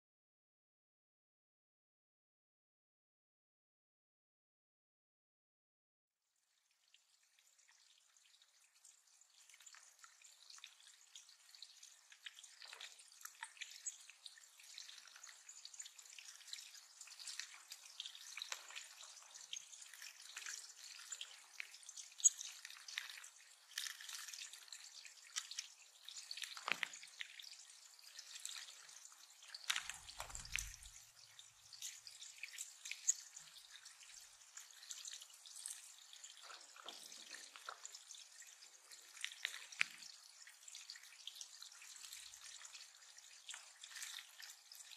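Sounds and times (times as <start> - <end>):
water dripping and trickling: 6.4 - 44.9.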